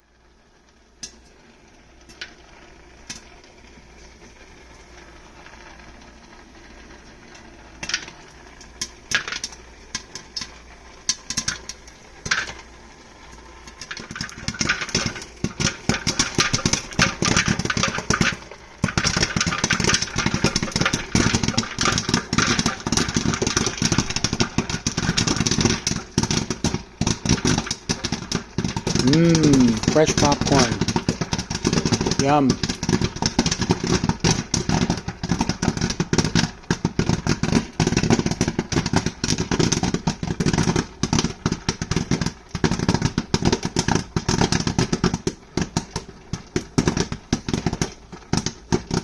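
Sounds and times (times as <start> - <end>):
popcorn machine humming: 0.0 - 49.0
popcorn popping: 0.0 - 49.0.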